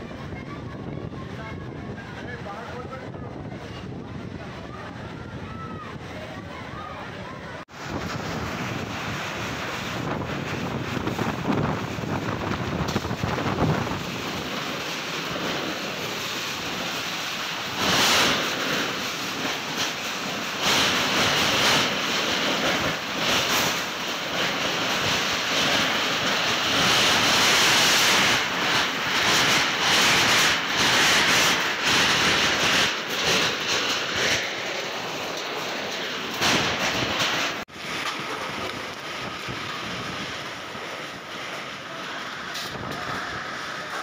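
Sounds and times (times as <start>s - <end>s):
strong wind rushing: 0.0s - 44.0s.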